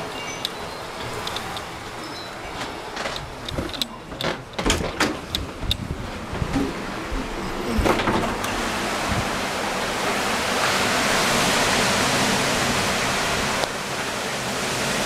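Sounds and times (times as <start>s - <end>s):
torrential rain pouring: 0.0s - 15.0s.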